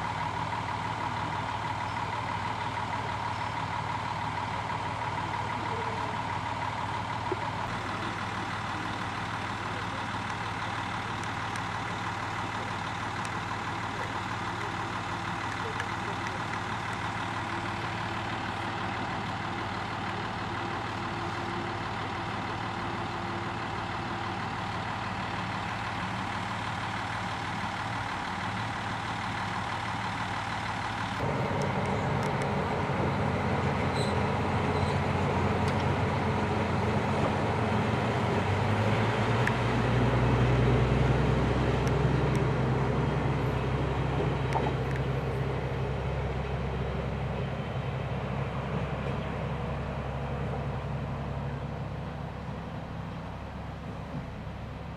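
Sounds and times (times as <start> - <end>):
diesel railcar engine rumbling: 0.0 - 54.9
diesel railcar idling: 0.0 - 54.9.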